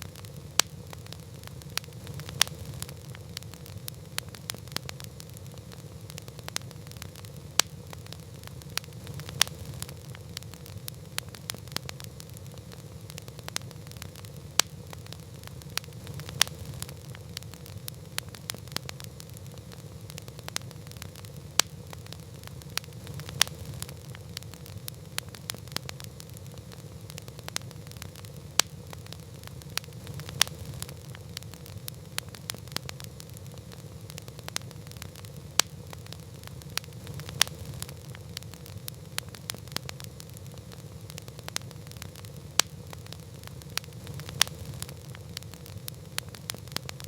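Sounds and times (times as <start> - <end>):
campfire crackling: 0.0 - 47.0
low rumble of burning: 0.0 - 47.0.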